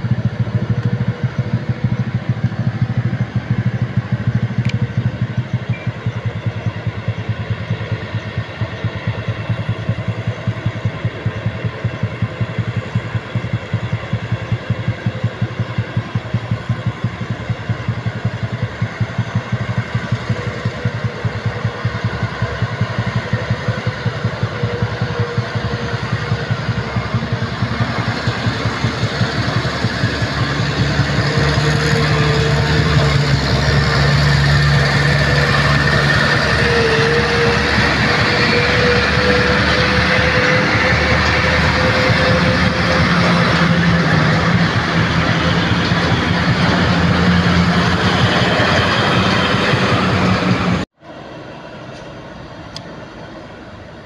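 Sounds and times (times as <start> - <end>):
truck engines rumbling: 0.0 - 54.0.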